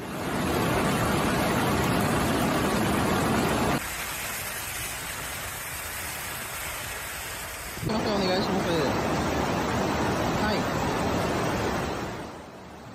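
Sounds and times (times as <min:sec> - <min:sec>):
floodwater rushing over road: 0:00.0 - 0:12.9
swollen river rushing: 0:00.0 - 0:12.9.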